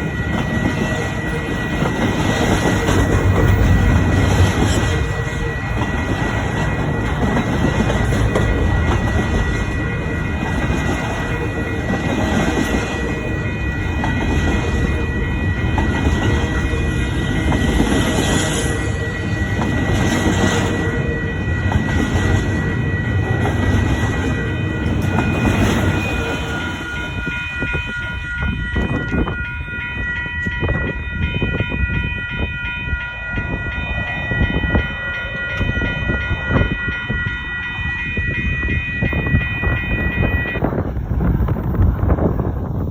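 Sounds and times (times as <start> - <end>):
freight train cars rumbling: 0.0 - 42.9
wheels ringing: 0.0 - 42.9.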